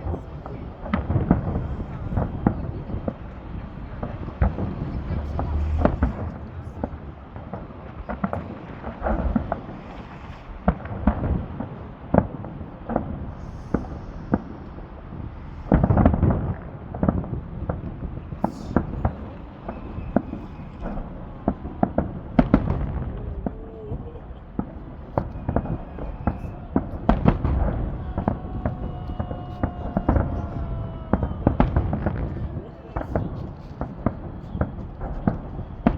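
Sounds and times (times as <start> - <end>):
fireworks bangs and pops: 0.0 - 35.9.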